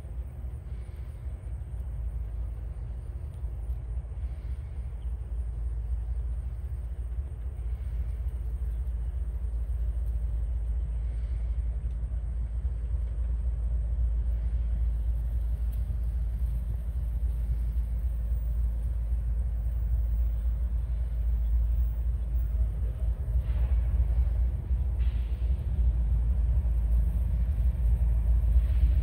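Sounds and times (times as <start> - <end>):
diesel locomotives rumbling: 0.0 - 29.0.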